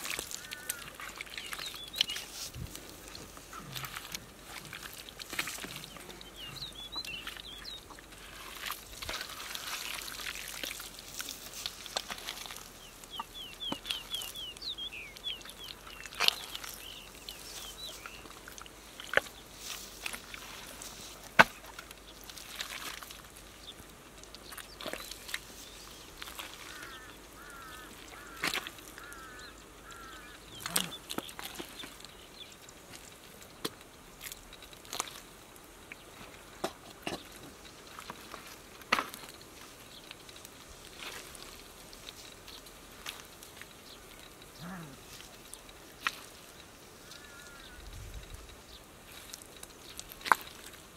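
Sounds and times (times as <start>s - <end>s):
hands squelching through mud: 0.0s - 47.7s, 48.3s - 50.9s
birds chirping: 0.0s - 50.9s.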